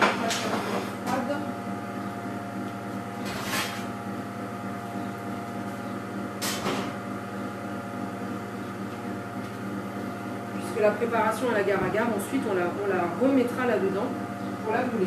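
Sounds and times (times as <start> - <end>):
kitchen appliance humming: 0.0 - 15.0.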